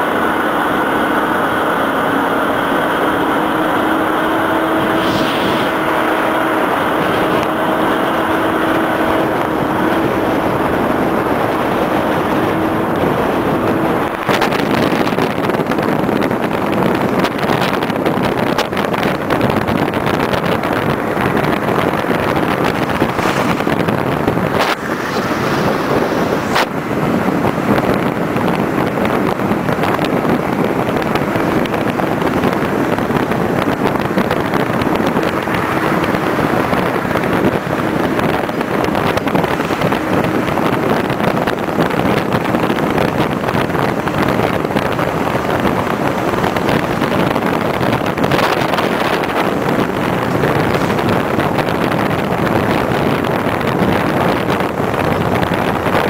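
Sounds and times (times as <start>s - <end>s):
road and wind noise in vehicle: 0.0s - 56.0s.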